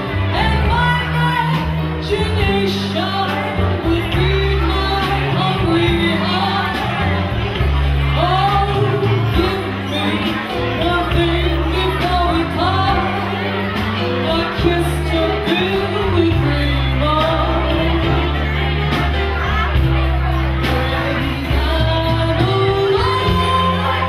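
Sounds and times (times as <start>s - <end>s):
woman singing into microphone: 0.0s - 18.7s, 20.6s - 24.0s
live band with guitar and drums: 0.0s - 24.0s
low bass notes: 0.0s - 24.0s.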